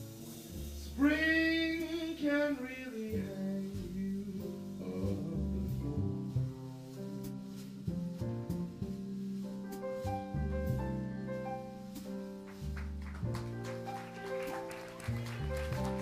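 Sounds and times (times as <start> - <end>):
jazz band playing: 0.0 - 16.0.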